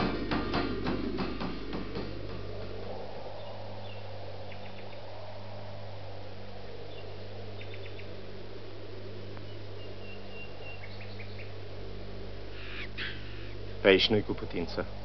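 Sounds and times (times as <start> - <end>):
birds chirping: 0.0 - 15.0
film soundtrack hiss and hum: 0.0 - 15.0.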